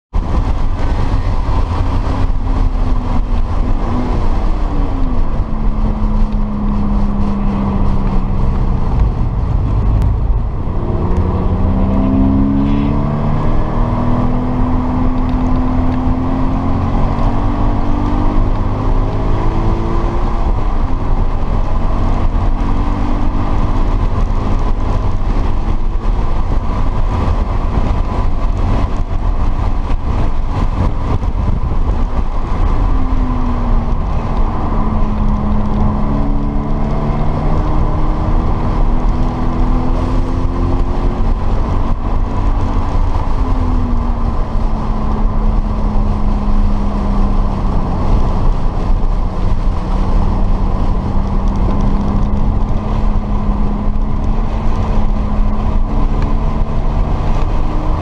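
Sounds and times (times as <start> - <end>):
car engine revving: 0.1 - 58.0
road and wind noise: 0.1 - 58.0.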